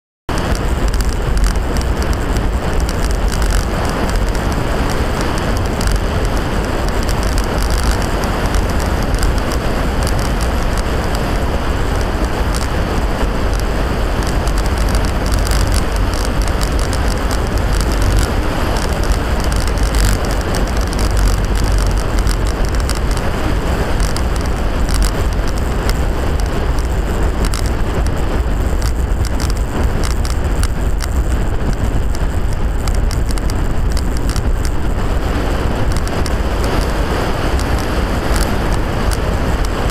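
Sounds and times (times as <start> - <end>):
deep road rumble: 0.2 - 39.9
small rattles: 0.3 - 39.9
wind on microphone: 0.3 - 39.9.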